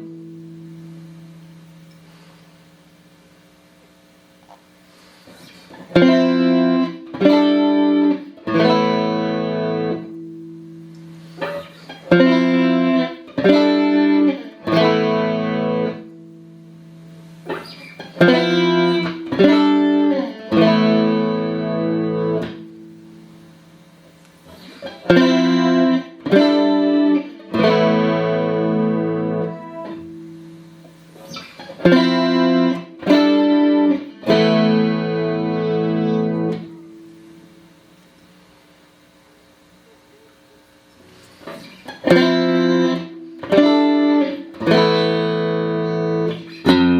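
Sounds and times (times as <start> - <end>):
clean electric guitar chords: 0.0 - 2.3, 5.4 - 38.2, 41.2 - 46.9.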